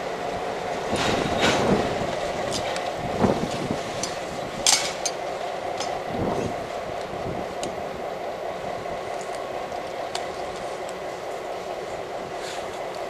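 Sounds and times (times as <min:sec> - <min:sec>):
diesel locomotive engine running: 0:00.0 - 0:13.0
wheels clicking and clanking on rails: 0:00.0 - 0:13.0.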